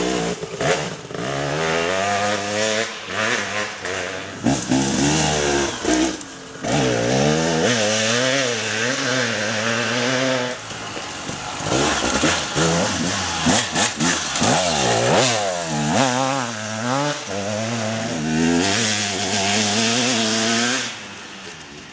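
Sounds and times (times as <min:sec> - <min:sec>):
dirt bike engines revving: 0:00.0 - 0:21.9.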